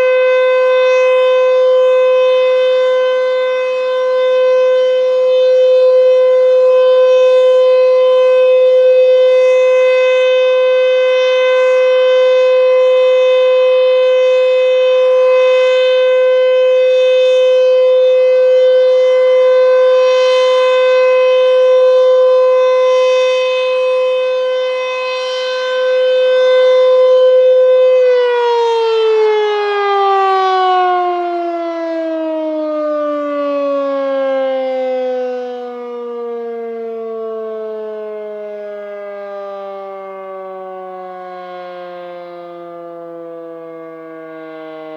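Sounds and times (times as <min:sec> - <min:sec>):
warning siren steady tone: 0:00.0 - 0:44.9.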